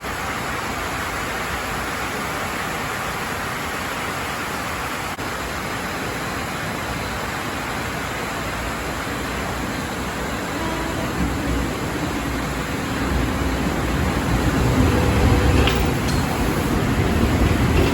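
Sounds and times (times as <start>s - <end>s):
heavy rain: 0.0s - 17.9s.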